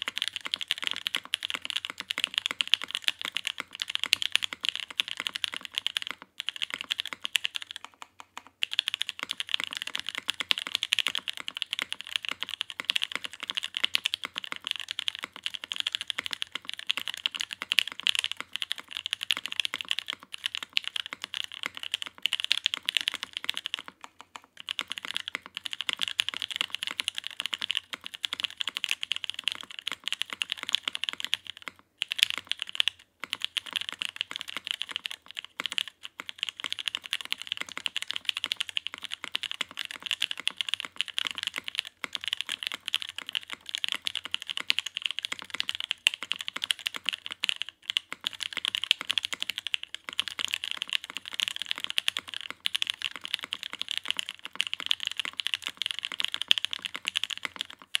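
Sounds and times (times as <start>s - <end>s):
fast mechanical keyboard typing: 0.0s - 58.0s.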